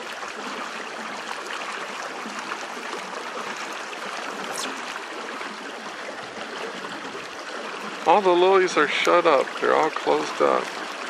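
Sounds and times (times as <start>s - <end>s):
paddle boat water churning: 0.0s - 11.0s.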